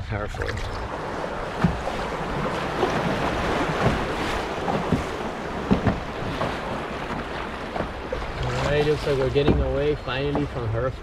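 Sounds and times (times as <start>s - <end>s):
wind buffeting microphone: 0.7s - 10.6s
paddle stroke thuds: 0.8s - 10.8s.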